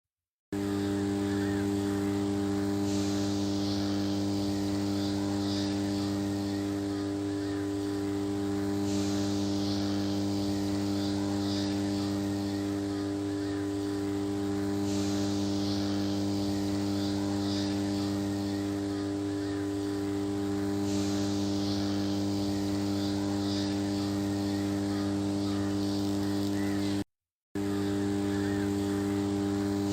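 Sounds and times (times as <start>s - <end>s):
transformer humming: 0.6s - 27.0s, 27.6s - 29.9s.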